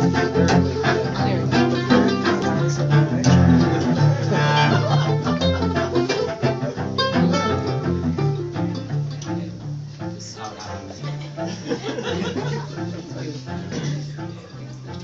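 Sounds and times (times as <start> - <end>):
cello plucked and bowed: 0.0 - 15.0.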